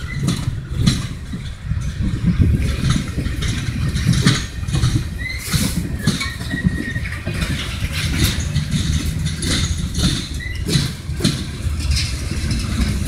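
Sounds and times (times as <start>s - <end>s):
high metal squeals: 0.0s - 13.0s
train cars clanking: 0.0s - 13.0s
train wheels rumbling on rails: 0.0s - 13.0s.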